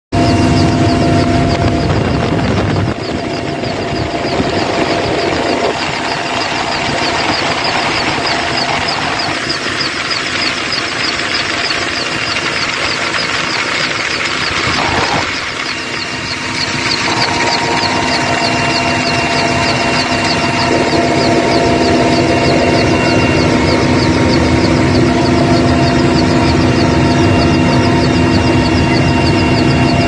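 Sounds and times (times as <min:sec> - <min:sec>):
helicopter engine and rotor: 0:00.1 - 0:30.0.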